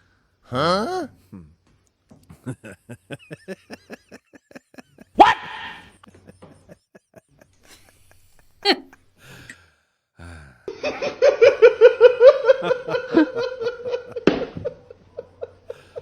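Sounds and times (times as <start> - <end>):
person laughing: 2.3 - 9.5, 10.3 - 16.0.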